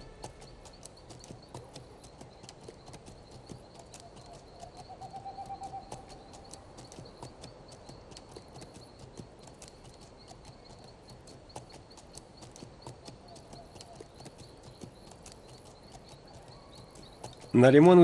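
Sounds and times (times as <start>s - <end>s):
horse hooves clip-clop: 0.0s - 18.0s.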